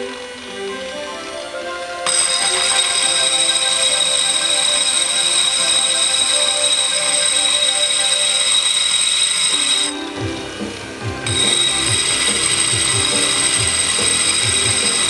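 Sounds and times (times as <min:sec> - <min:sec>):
angle grinder grinding concrete: 0:02.0 - 0:15.0.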